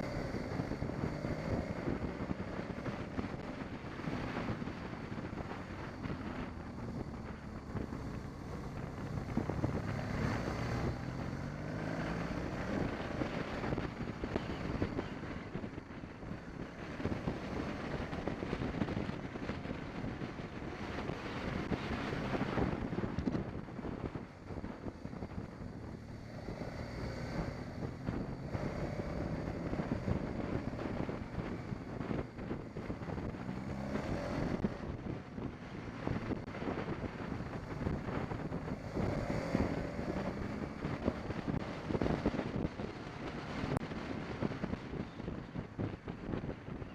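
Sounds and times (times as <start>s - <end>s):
motorcycle engine accelerating: 0.0s - 46.9s
wind noise on microphone: 0.0s - 46.9s.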